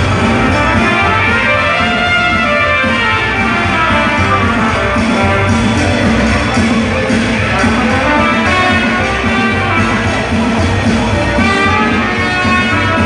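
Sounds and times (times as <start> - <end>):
upbeat show music: 0.0 - 13.0.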